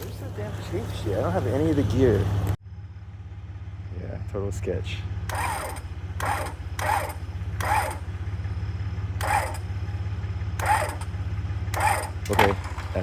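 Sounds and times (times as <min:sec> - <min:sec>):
engine idling: 0:00.0 - 0:13.0
winch gear and motor whirring: 0:00.0 - 0:13.0.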